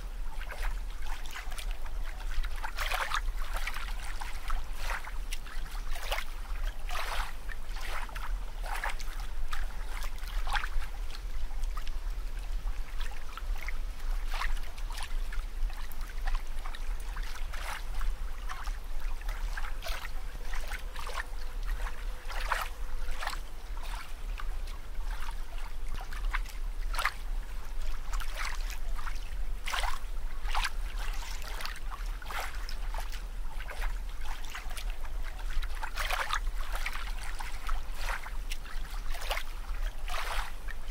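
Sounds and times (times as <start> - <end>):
steady low rumble: 0.0 - 40.9
water bubbling and trickling: 0.0 - 40.9.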